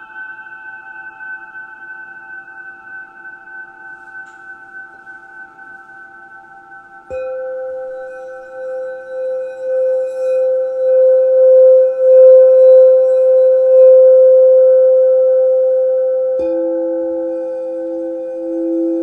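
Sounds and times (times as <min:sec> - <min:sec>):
higher tones from other bowls: 0:00.0 - 0:19.0
singing bowl pulsing tone: 0:00.0 - 0:19.0.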